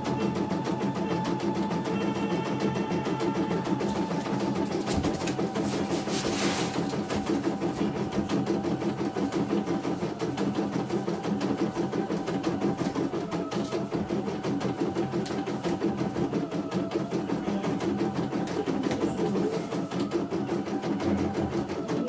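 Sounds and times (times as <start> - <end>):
embroidery machine stitching: 0.0 - 22.0.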